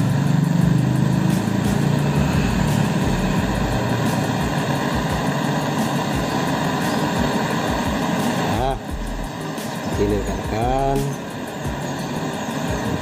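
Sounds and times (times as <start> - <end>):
gas torch flame burning: 0.0 - 13.0.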